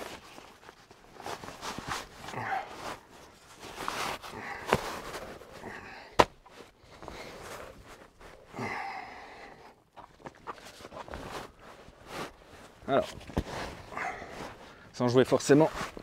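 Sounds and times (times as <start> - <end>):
fabric rustling: 0.0 - 8.5, 10.0 - 16.0.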